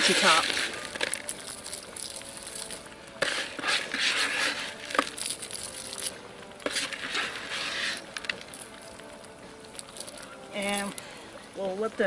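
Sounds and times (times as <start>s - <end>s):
chips crunching and rustling: 0.0s - 10.4s.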